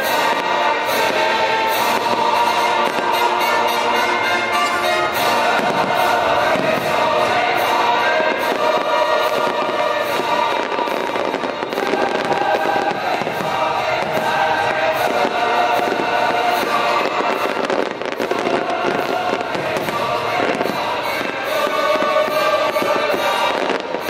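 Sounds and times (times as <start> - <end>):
fireworks bursting: 0.0 - 24.0
orchestral music: 0.0 - 24.0.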